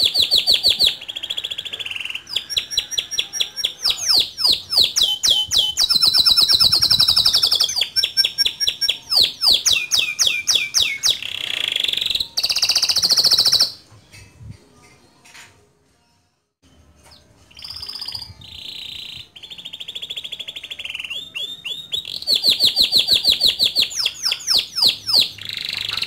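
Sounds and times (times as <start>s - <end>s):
canary singing: 0.0s - 14.4s, 16.6s - 26.0s.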